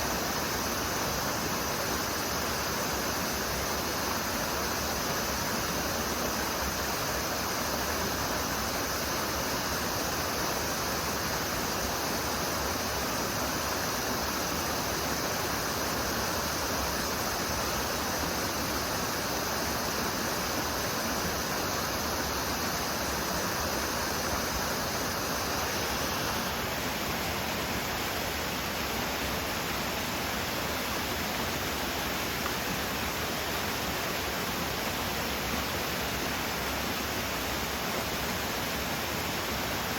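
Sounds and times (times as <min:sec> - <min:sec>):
cicadas calling: 0:00.0 - 0:39.9
stream rushing over rocks: 0:00.0 - 0:39.9.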